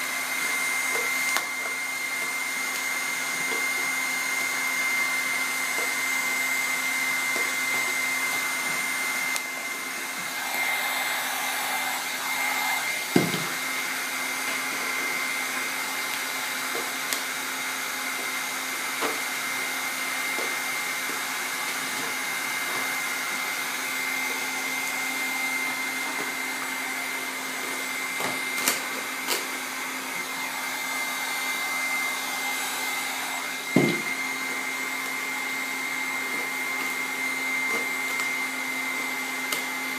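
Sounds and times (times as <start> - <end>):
heat gun fan whining: 0.0 - 39.9.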